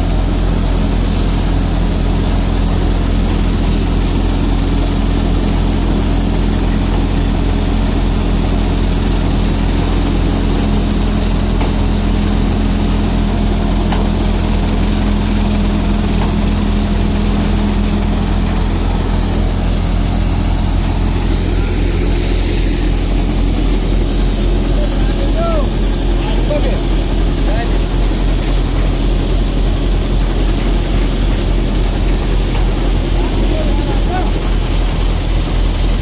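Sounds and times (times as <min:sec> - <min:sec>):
thresher machine drone: 0:00.0 - 0:36.0.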